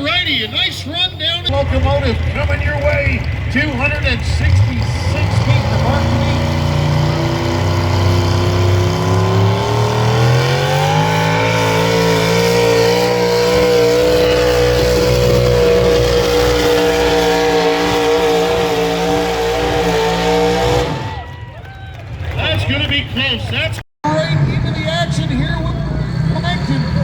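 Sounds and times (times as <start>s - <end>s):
truck engine at full throttle: 0.0s - 21.4s, 22.1s - 27.0s.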